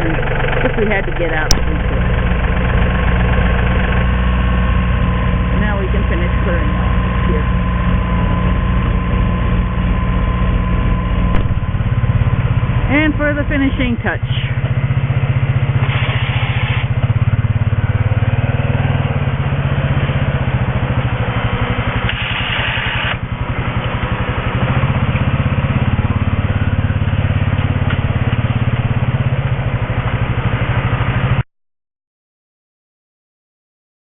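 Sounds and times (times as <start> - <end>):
small engine running: 0.0 - 31.4.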